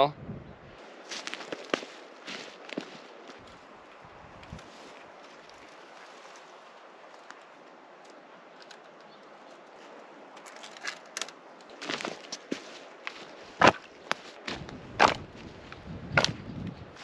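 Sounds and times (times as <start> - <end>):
steady faint hiss: 0.0 - 17.0
poles and branches rustling and clicking: 0.8 - 17.0.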